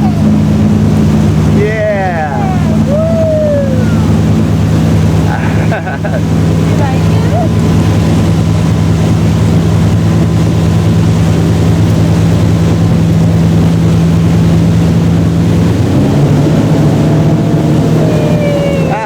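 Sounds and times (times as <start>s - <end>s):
motorboat engine running: 0.0s - 19.0s.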